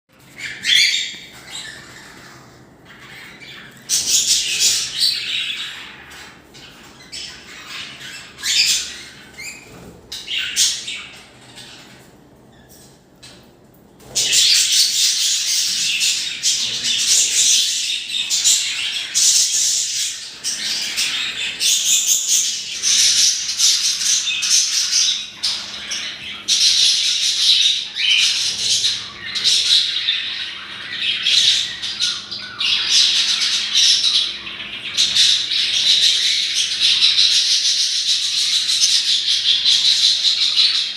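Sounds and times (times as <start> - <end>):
birds chattering and squawking: 0.1 - 40.9.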